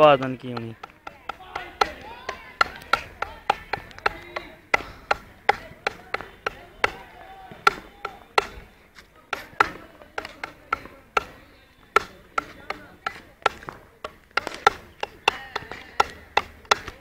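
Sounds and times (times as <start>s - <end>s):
hockey stick striking ball: 0.6s - 17.0s.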